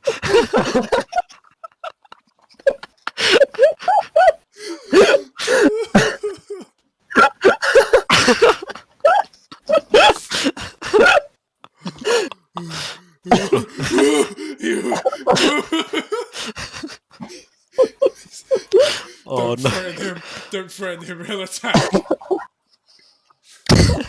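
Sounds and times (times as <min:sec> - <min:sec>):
people laughing hysterically: 0:00.0 - 0:20.5, 0:21.6 - 0:22.6.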